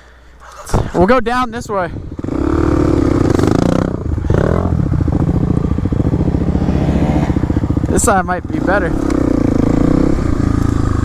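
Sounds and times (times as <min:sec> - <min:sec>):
dirt bike engine running: 0:02.0 - 0:11.0.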